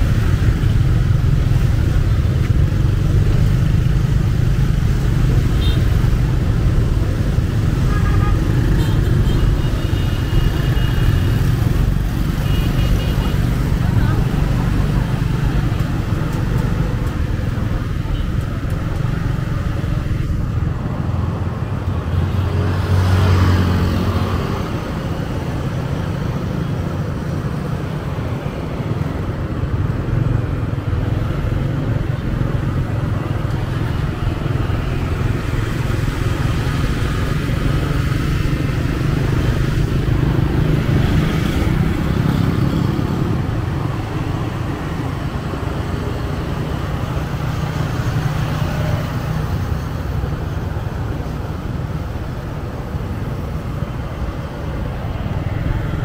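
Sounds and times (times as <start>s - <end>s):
motorbike and car engines: 0.0s - 56.0s.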